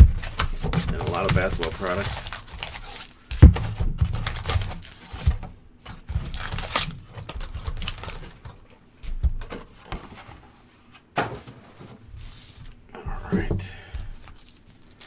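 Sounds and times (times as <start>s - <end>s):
cards and boxes rustling: 0.0s - 15.0s.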